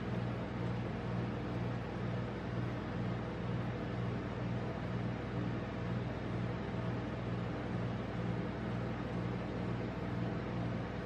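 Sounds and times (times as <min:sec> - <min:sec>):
refrigeration unit humming and hissing: 0:00.0 - 0:11.0.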